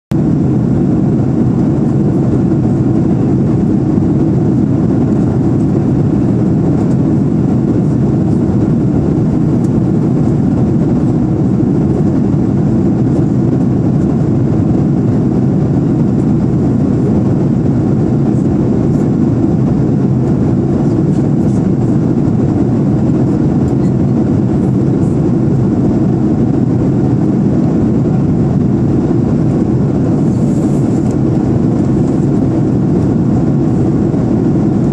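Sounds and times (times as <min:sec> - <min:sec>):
airplane cabin engine rumble: 0:00.1 - 0:34.9.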